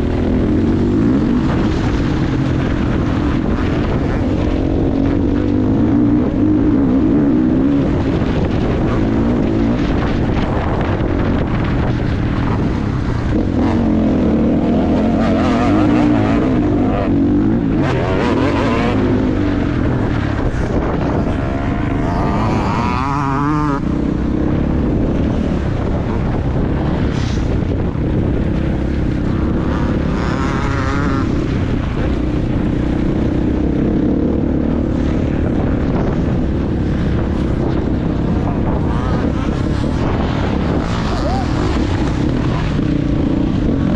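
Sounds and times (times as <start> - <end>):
motocross bike engine: 0.0 - 43.9
rushing noise: 0.0 - 43.9.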